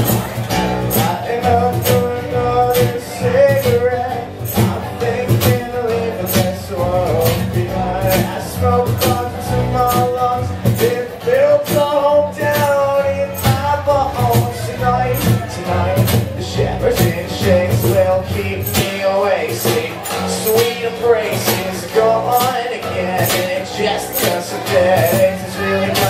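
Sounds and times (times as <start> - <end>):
acoustic guitars strumming: 0.0 - 26.0
cajon beat: 0.0 - 26.0
man singing: 0.0 - 26.0.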